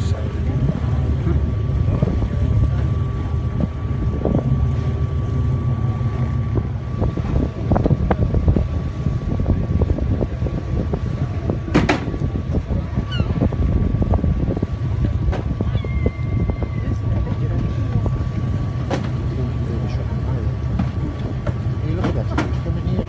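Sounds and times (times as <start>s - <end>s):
diesel engine humming: 0.0s - 23.0s
wind buffeting microphone: 0.0s - 23.0s.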